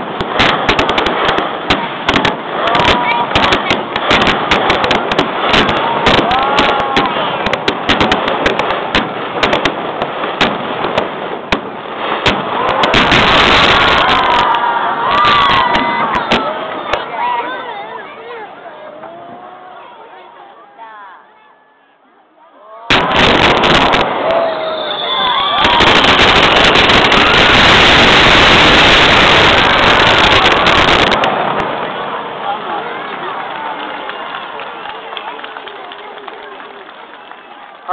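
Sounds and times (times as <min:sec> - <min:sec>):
fireworks bangs and crackling: 0:00.0 - 0:19.5, 0:22.9 - 0:37.9.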